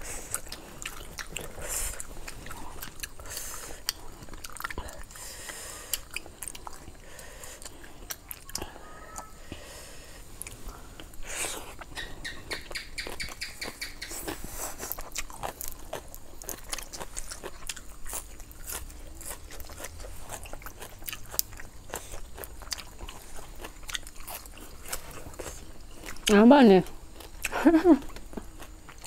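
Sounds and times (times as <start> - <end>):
person biting and chewing: 0.0 - 9.2, 10.4 - 26.3
mouth clicks and crunches: 0.0 - 9.3, 10.3 - 29.0.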